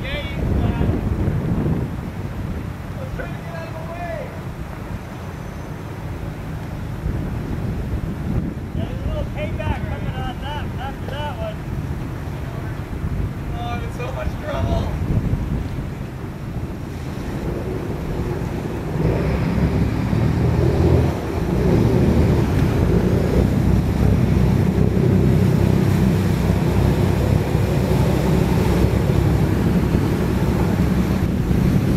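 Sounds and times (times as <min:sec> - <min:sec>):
boat engines running: 0:00.0 - 0:31.9
wake churning water: 0:00.0 - 0:31.9
wind noise on microphone: 0:00.0 - 0:31.9.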